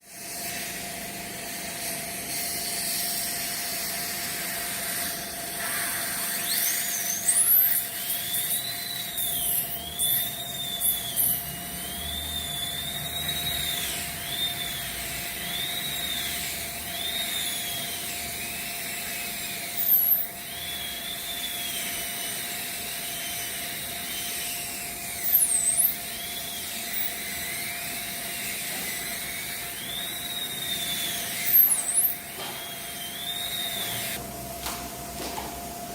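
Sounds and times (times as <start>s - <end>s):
dental drill whining: 0.0s - 35.9s
drill squeals: 1.8s - 34.2s.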